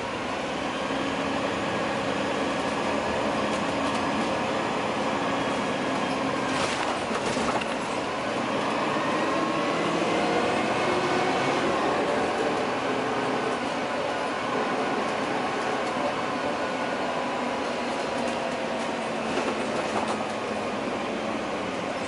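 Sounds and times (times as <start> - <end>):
bus engine drone with whine: 0.0 - 22.0.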